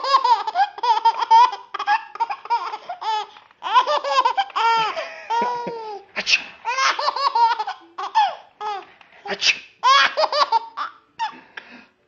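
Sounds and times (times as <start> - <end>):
baby laughing: 0.0 - 8.9, 9.8 - 11.4.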